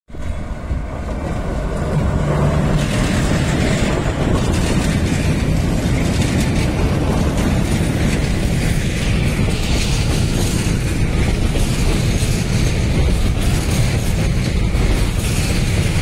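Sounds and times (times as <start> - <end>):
freight train rumbling past: 0.1 - 16.0.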